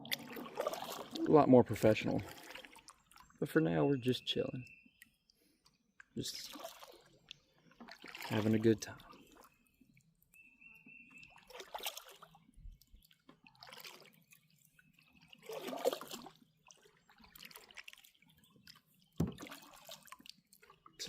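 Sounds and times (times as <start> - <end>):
water splashing and dripping: 0.0 - 3.5, 6.0 - 10.4, 11.1 - 21.0.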